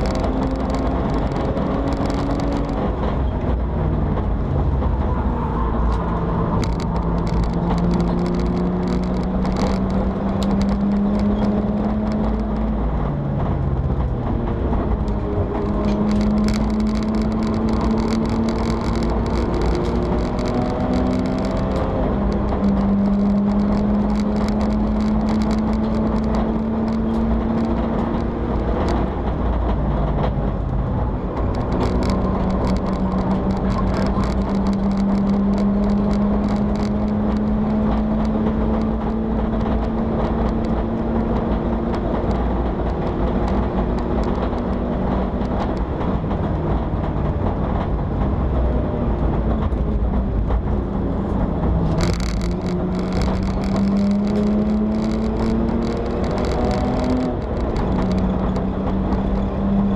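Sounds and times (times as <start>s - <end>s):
race car engine running hard: 0.0s - 59.9s
road and wind noise: 0.0s - 59.9s.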